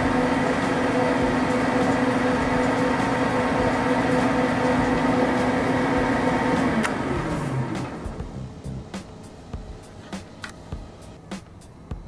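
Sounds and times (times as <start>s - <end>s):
mill motor hum and whine: 0.0s - 12.0s.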